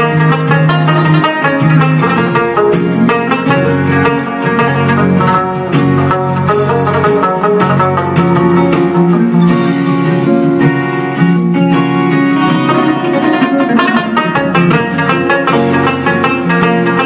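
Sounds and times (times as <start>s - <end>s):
music with fast plucked strings: 0.0s - 17.0s.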